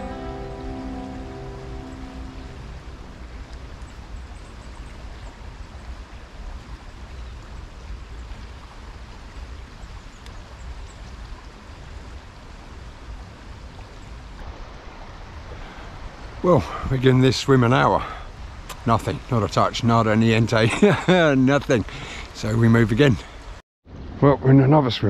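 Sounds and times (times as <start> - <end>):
flooded river rushing: 0.0 - 23.6.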